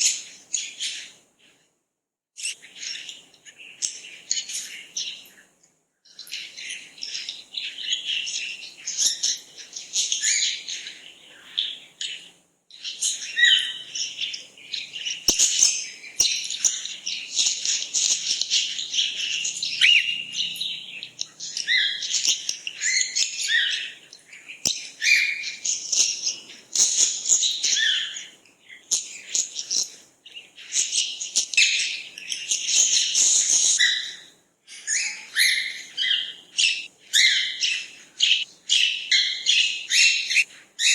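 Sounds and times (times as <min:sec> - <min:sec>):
birds chirping and singing: 0:00.0 - 0:01.2, 0:02.4 - 0:05.5, 0:06.1 - 0:40.9.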